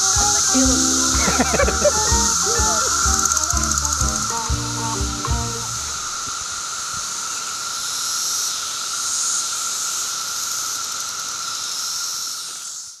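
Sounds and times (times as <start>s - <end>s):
cicadas chorus droning: 0.0s - 13.0s.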